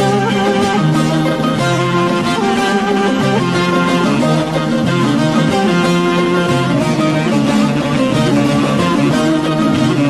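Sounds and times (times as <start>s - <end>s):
plucked string instruments melody: 0.0s - 10.0s.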